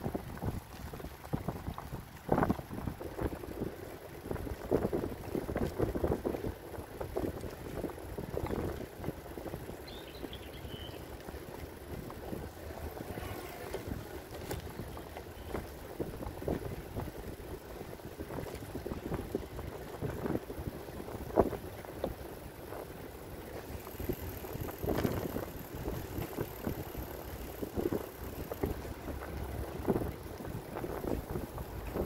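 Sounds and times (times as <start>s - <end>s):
bicycle rolling on asphalt: 0.0s - 32.0s
wind buffeting microphone: 0.0s - 32.0s.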